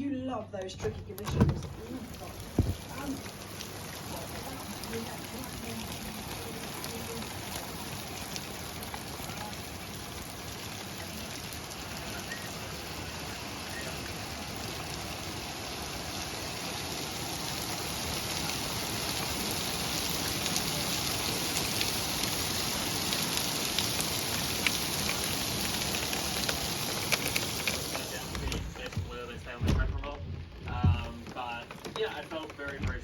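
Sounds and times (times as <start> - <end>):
big raindrops tapping: 0.6 - 33.0
heavy rain pouring: 0.8 - 33.0.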